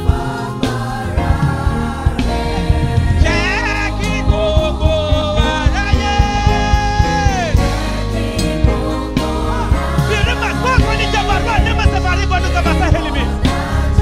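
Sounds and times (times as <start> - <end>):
band with drums and bass: 0.0 - 14.0.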